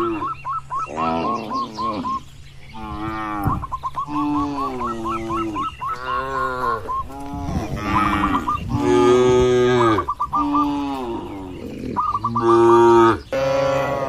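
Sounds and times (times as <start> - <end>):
cattle mooing: 0.0 - 14.0.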